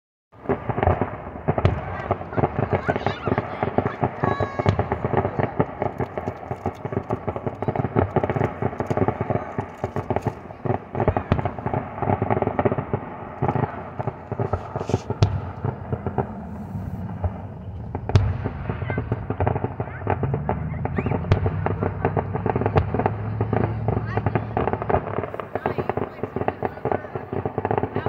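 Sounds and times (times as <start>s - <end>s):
fireworks crackling pops: 0.4s - 28.0s
fireworks shells booming: 0.4s - 28.0s.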